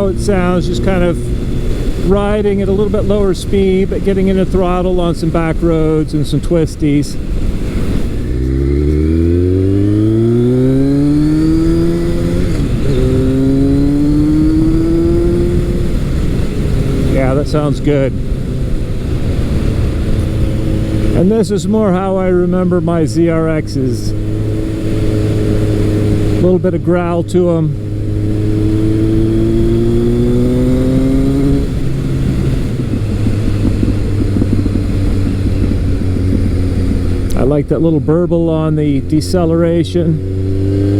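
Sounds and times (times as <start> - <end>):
exhaust burbling on deceleration: 0.0 - 40.9
motorcycle engine accelerating hard: 0.0 - 40.9.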